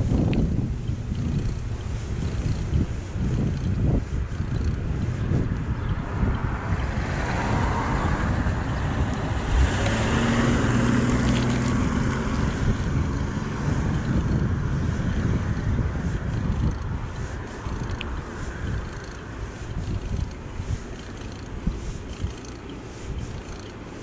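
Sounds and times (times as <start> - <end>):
motor vehicle passing: 0.0 - 24.0
wind buffeting microphone: 0.0 - 24.0.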